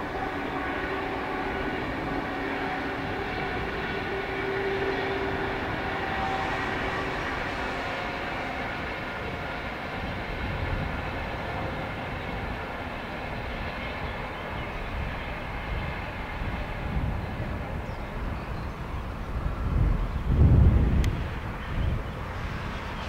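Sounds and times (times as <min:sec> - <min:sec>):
distant train wheels rumbling: 0:00.0 - 0:23.0.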